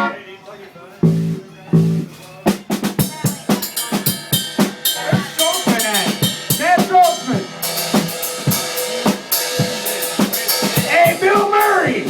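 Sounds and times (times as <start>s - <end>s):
drum kit playing: 1.0s - 12.0s.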